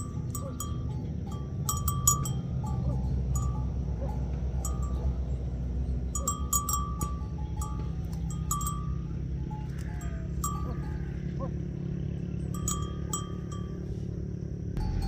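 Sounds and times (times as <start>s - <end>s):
livestock bells clanking: 0.0s - 15.0s
low steady rumble: 0.0s - 15.0s.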